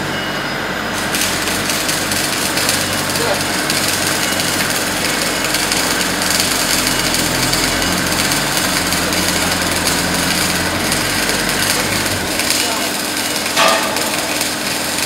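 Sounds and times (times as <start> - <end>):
bandsaw machine hum: 0.0 - 15.0.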